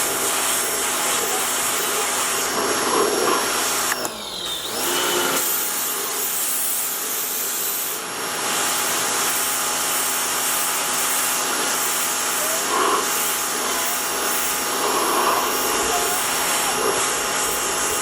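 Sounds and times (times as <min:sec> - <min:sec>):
pressure washer jet spraying: 0:00.0 - 0:18.0.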